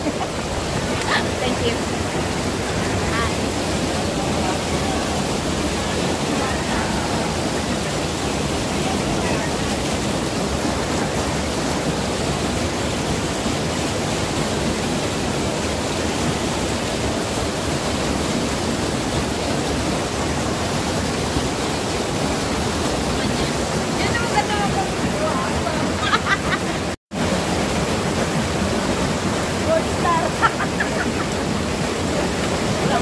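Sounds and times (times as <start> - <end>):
fast-flowing water rushing: 0.0 - 33.0.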